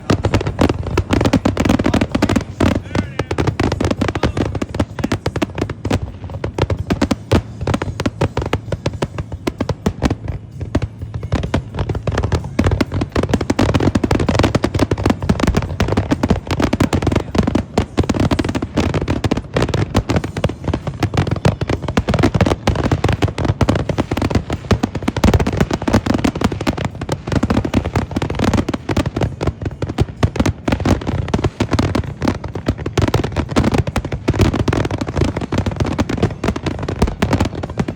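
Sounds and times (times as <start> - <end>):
fireworks bursts and booms: 0.0 - 37.9
fireworks crackling: 0.0 - 37.9.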